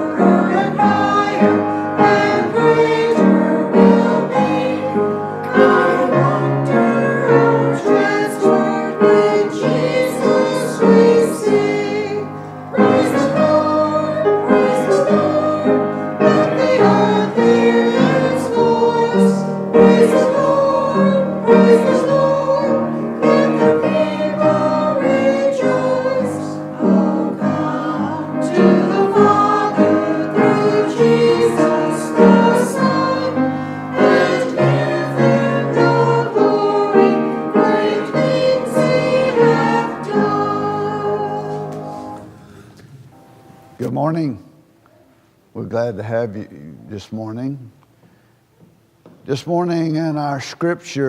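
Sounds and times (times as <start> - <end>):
choir singing a hymn: 0.0 - 43.8
instrumental accompaniment: 0.0 - 44.2.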